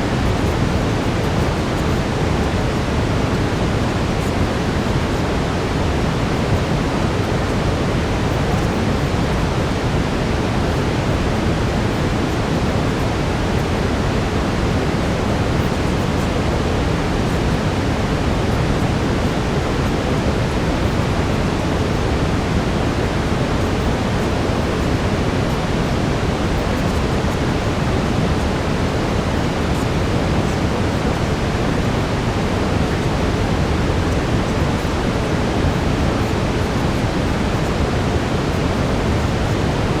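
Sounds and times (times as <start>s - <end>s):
brown noise hiss: 0.0s - 40.0s.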